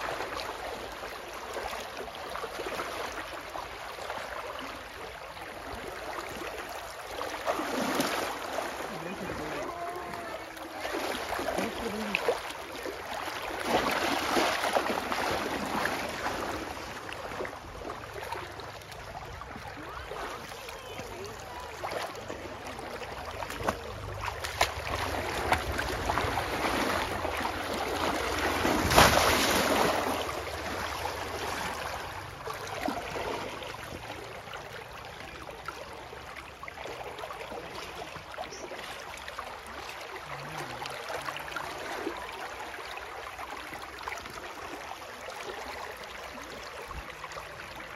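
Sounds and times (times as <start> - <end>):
water splashing and sloshing: 0.0 - 47.9.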